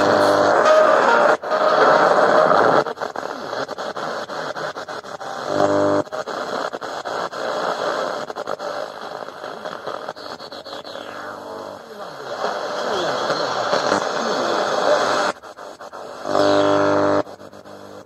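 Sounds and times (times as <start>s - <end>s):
radio station signal: 0.0s - 15.3s
radio static hissing: 0.0s - 18.0s.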